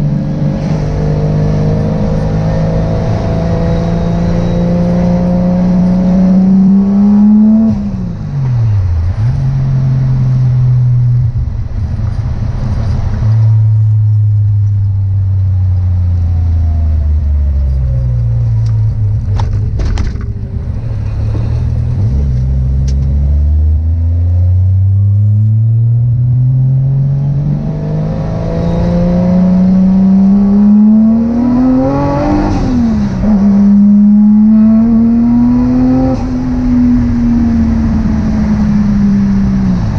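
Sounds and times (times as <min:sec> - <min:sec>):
car engine revving through gears: 0:00.0 - 0:14.9, 0:20.6 - 0:39.9.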